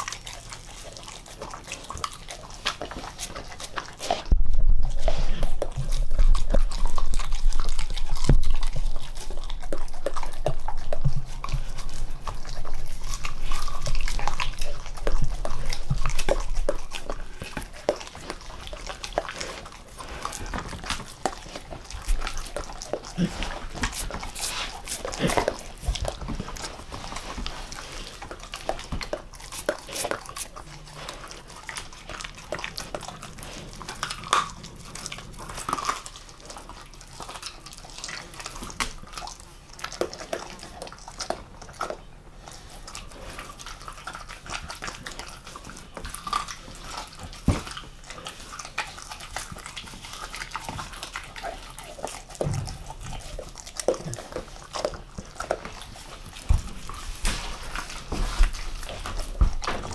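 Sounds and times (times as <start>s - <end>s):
dog chewing wetly: 0.0s - 59.9s.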